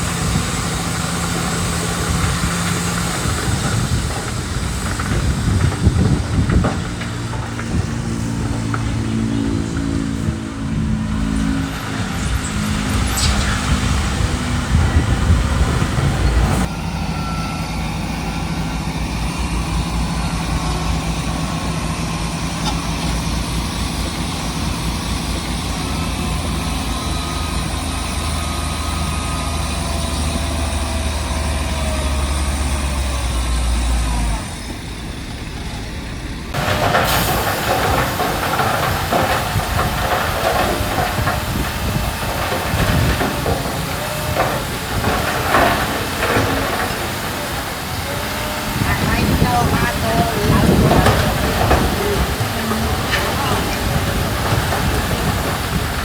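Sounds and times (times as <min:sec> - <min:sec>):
diesel engine low drone: 0:00.0 - 0:56.0
machinery rumble and clatter: 0:00.0 - 0:56.0.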